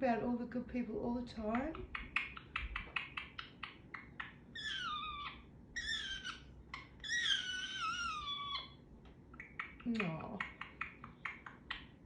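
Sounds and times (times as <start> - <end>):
parrot calling: 1.5 - 12.0.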